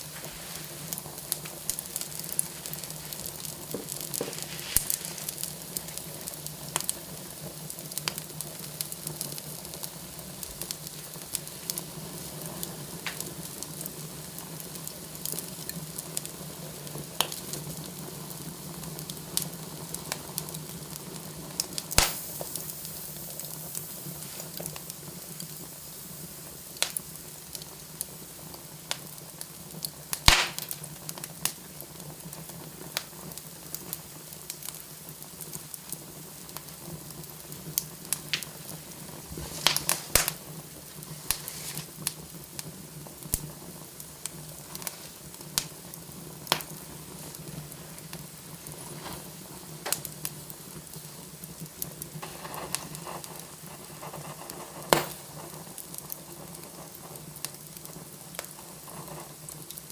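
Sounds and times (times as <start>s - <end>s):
fire hiss: 0.0s - 59.9s
wood fire crackling and popping: 0.0s - 59.9s.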